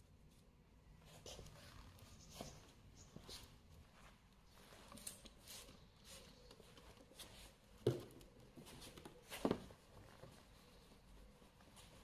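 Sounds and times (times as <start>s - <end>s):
faint handling sounds: 0.0s - 12.0s.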